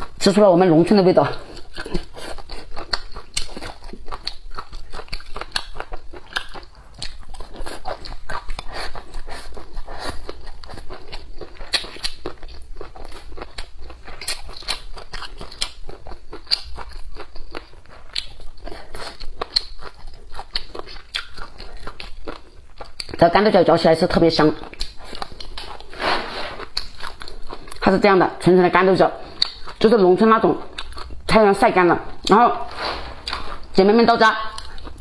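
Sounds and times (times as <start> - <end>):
person chewing food: 1.2 - 28.5, 29.2 - 31.4, 32.0 - 35.0.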